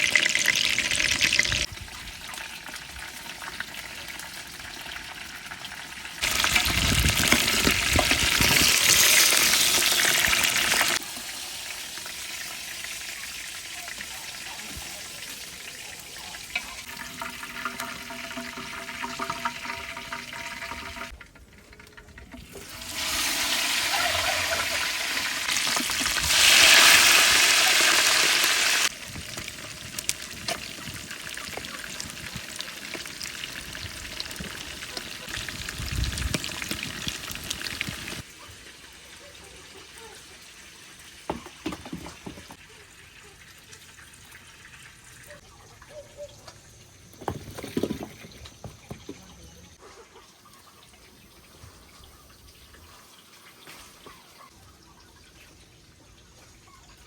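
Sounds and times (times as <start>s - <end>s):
water running and pouring: 0.0s - 39.6s, 47.0s - 57.0s.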